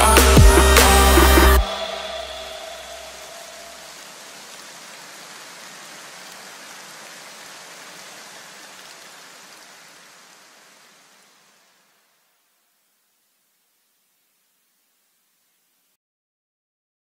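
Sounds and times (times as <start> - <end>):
steady rain-like hiss: 0.0 - 16.0.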